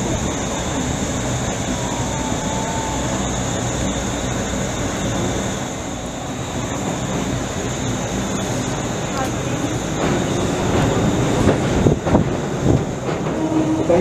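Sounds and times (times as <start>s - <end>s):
train car noise on bridge: 0.0s - 14.0s.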